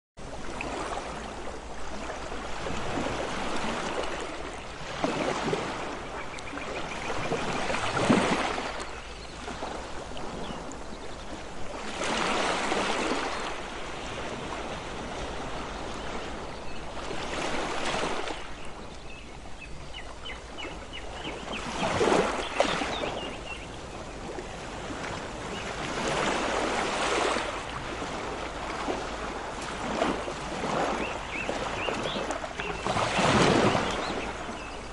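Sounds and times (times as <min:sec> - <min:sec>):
ocean waves breaking: 0:00.2 - 0:34.9.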